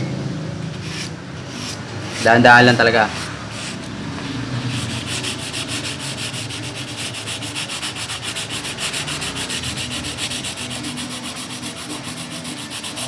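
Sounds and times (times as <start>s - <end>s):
blade rubbing on sandpaper: 0.8s - 3.9s, 4.7s - 13.0s.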